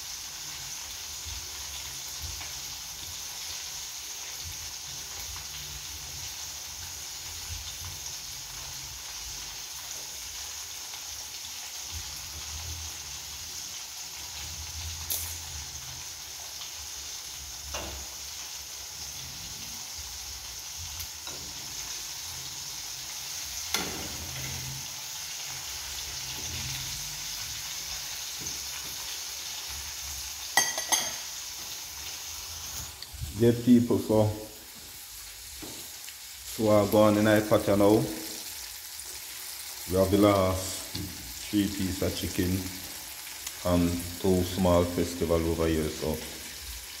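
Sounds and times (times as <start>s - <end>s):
oil sizzling in a frying pan: 0.0s - 47.0s.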